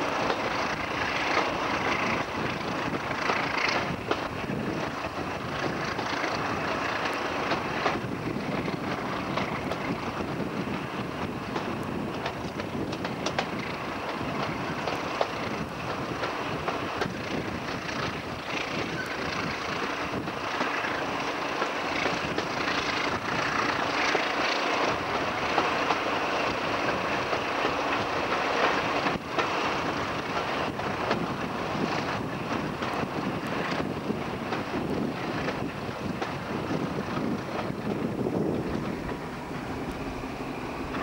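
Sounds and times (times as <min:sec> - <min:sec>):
diesel engine drone: 0:00.0 - 0:41.0
rush of moving train: 0:00.0 - 0:41.0
wheels clicking on rail joints: 0:00.0 - 0:41.0.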